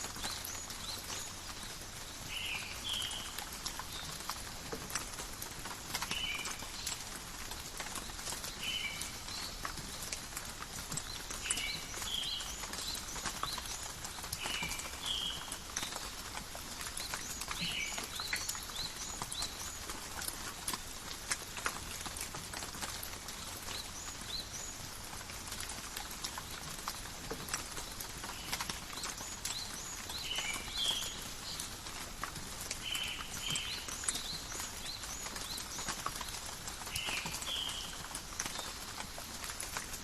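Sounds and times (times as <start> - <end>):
rain pattering on leaves: 0.0 - 40.0.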